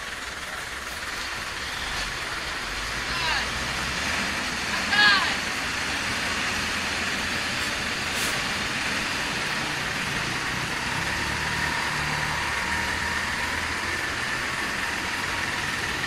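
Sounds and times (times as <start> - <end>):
diesel truck engines droning: 0.0 - 16.0.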